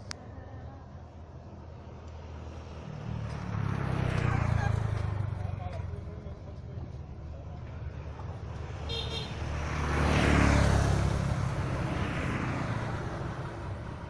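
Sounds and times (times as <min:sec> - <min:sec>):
vehicle passing: 0:01.3 - 0:14.0.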